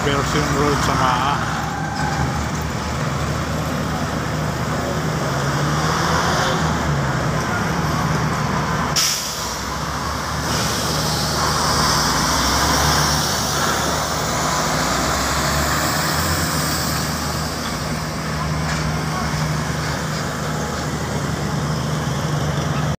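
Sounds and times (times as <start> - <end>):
diesel trucks passing: 0.0 - 23.0.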